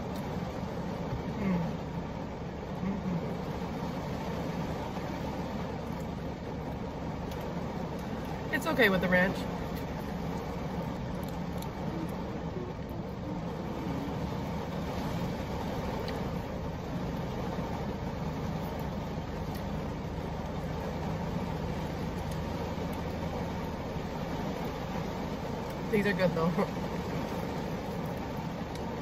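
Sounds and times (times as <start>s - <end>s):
heavy rain drumming on car roof: 0.0s - 29.0s
low even hum: 0.0s - 29.0s.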